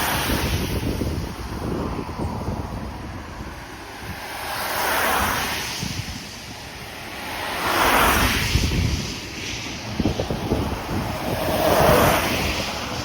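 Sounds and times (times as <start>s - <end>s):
vehicles passing: 0.0s - 13.0s
wind buffeting microphone: 0.0s - 13.0s.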